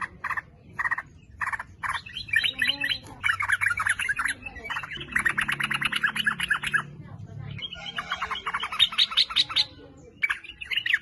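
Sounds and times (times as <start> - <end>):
bulbul chattering song: 0.0 - 11.0.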